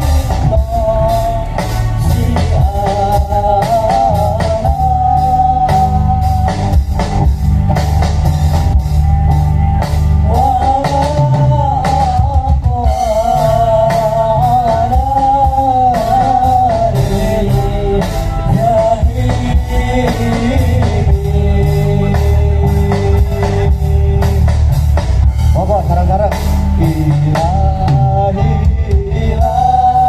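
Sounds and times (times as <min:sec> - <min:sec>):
drum kit: 0:00.0 - 0:30.0
heavy bass: 0:00.0 - 0:30.0.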